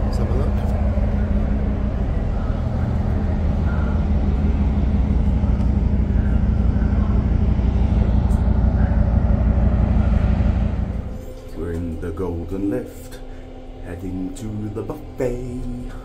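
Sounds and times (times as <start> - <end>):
ship machinery humming: 0.0 - 16.0.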